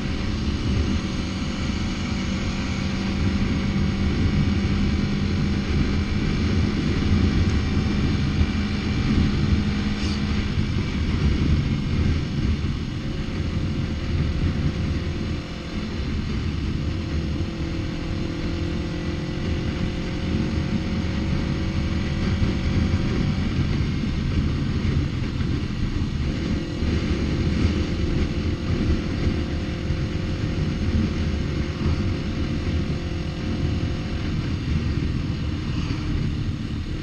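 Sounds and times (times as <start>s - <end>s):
motorcycle engine cruising: 0.0s - 37.0s
wind rumble on microphone: 0.0s - 37.0s.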